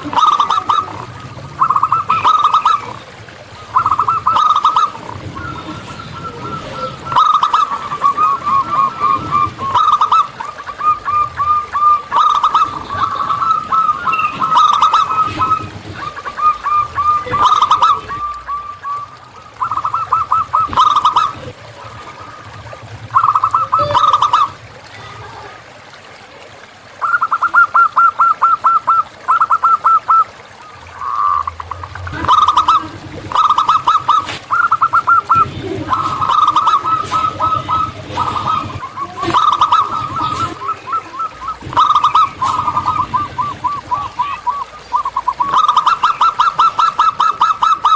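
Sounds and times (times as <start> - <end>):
doves cooing: 0.0 - 47.9.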